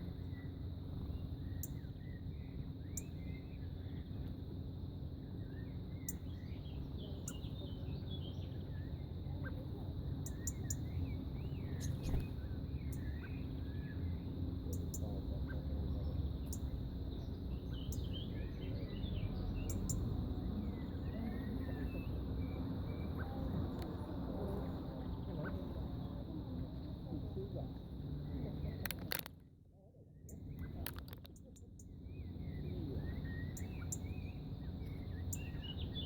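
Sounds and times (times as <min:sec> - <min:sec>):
small bird chirping: 0:00.0 - 0:24.6, 0:30.2 - 0:36.0
low background rumble: 0:00.0 - 0:36.0.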